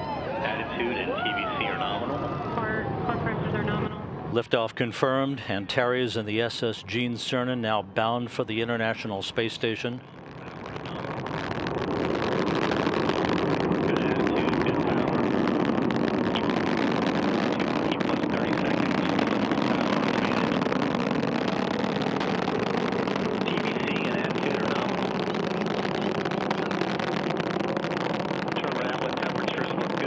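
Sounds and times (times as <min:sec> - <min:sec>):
rocket engines roaring: 0:00.0 - 0:30.0.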